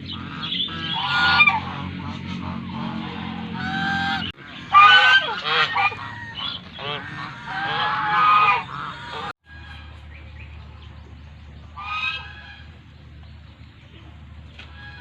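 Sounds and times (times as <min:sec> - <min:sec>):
geese honking: 0:00.0 - 0:11.0, 0:11.6 - 0:13.0, 0:14.5 - 0:15.0.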